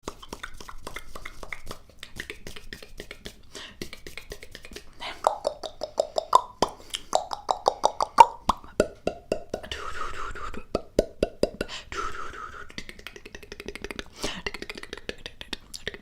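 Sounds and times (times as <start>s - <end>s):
wet mouth clicks and tongue pops: 0.0s - 9.7s, 12.7s - 16.0s.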